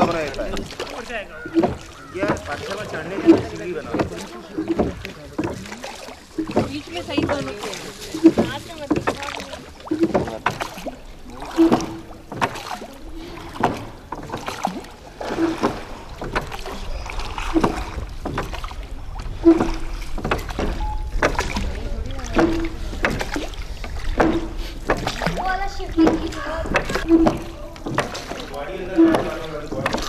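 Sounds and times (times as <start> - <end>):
oar blades splashing water: 0.0 - 30.0
oars knocking and creaking: 0.0 - 30.0.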